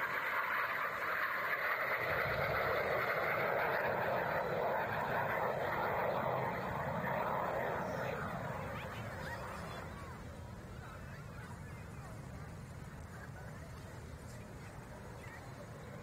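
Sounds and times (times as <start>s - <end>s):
jet flying past: 0.0s - 16.0s.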